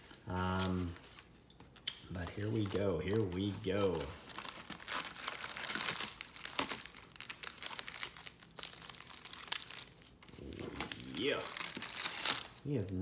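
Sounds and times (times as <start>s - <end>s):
plastic wrap crinkling and tearing: 0.0s - 1.3s, 2.1s - 13.0s.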